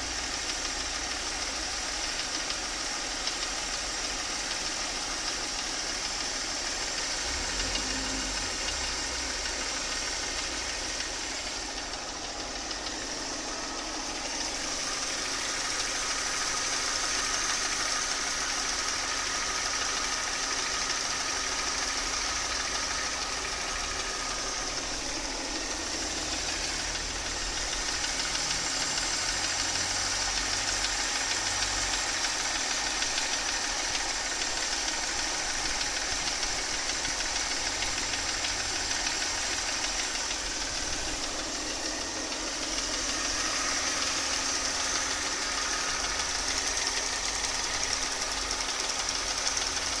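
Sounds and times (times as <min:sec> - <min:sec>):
car engine running: 0:00.0 - 0:50.0
rapid regular engine knock: 0:00.0 - 0:50.0.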